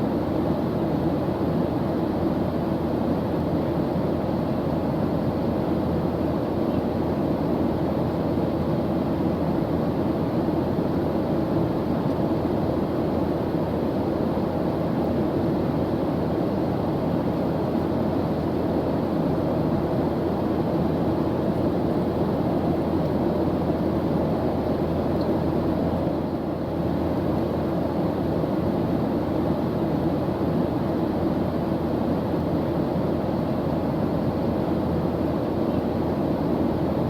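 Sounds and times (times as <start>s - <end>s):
airplane engine drone: 0.0s - 37.0s.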